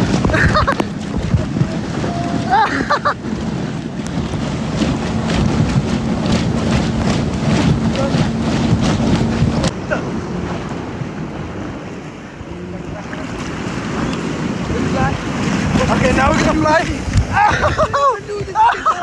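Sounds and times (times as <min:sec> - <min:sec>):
water slaps and spray: 0:00.0 - 0:12.1, 0:12.9 - 0:19.0
motorboat engine running: 0:00.0 - 0:19.0
wind buffeting microphone: 0:00.0 - 0:19.0.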